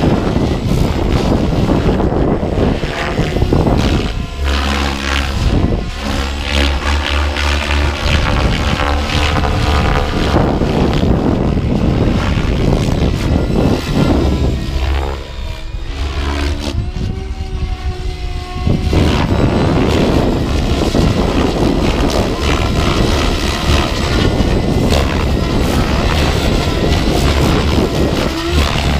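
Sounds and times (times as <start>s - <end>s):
rc helicopter rotor and motor whine: 0.0s - 28.9s
wind buffeting microphone: 0.0s - 28.9s.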